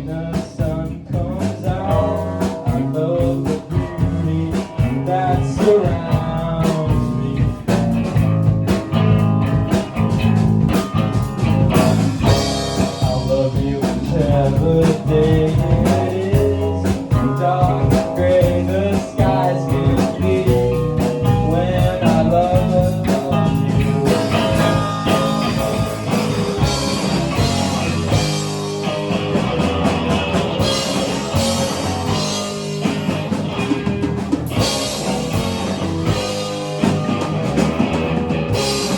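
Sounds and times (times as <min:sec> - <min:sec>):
blues rock song with vocals: 0:00.0 - 0:38.9.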